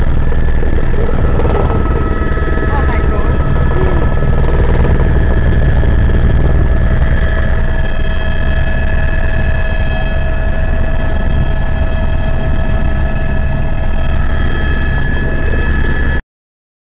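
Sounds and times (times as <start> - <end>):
helicopter engine and rotor inside cabin: 0.0 - 16.2.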